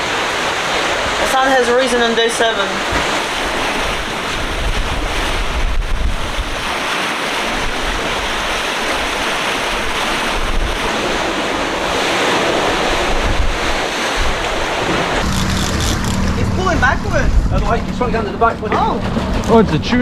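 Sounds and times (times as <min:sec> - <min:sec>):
sea waves rushing: 0:00.0 - 0:20.0
wind buffeting microphone: 0:00.0 - 0:20.0.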